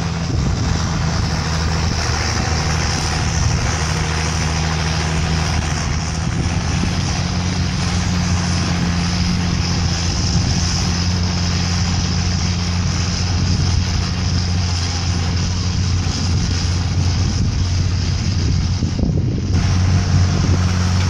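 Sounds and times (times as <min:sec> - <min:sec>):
diesel tractor engine droning: 0:00.0 - 0:21.0.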